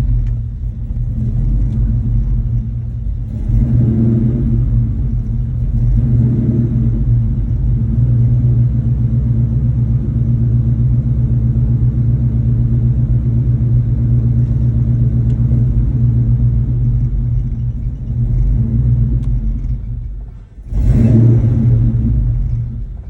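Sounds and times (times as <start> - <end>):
car engine idling roughly: 0.0 - 23.0.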